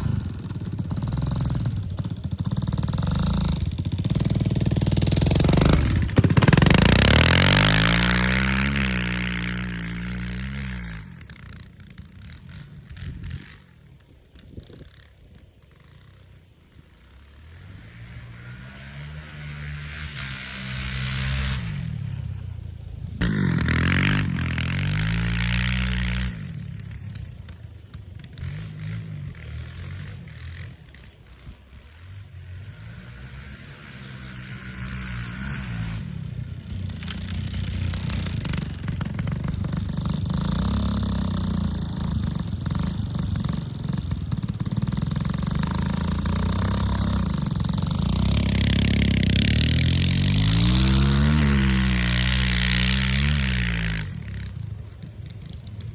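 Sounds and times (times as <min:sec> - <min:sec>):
dirt bike engine revving: 0:00.0 - 0:11.4, 0:17.2 - 0:27.3, 0:28.2 - 0:55.0.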